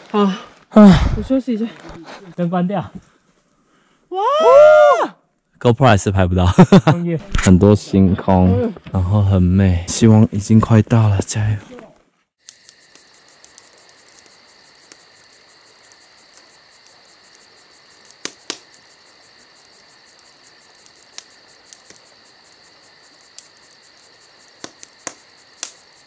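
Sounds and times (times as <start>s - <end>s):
crickets trilling: 0.1s - 3.0s, 5.7s - 26.0s.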